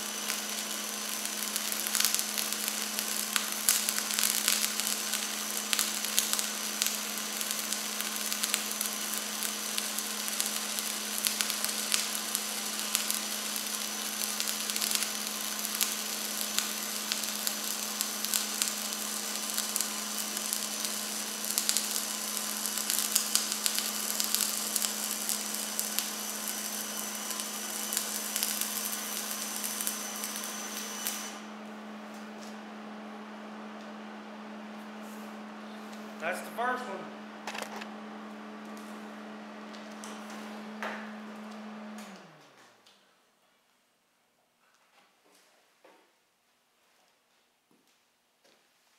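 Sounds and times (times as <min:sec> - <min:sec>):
welding arc crackling: 0:00.0 - 0:34.1, 0:34.7 - 0:43.0.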